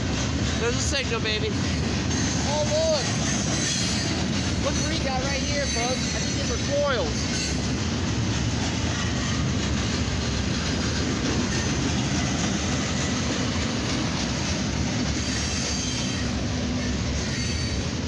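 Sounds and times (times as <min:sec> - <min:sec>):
freight train wheels rattling on rails: 0:00.0 - 0:18.0.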